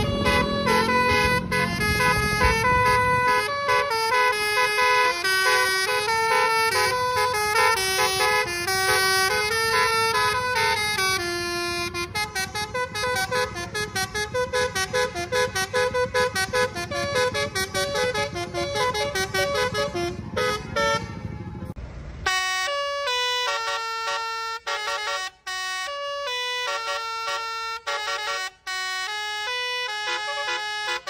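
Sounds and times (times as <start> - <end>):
low engine rumble: 0.0 - 31.0
multi-tone bus horn melody: 0.0 - 31.0.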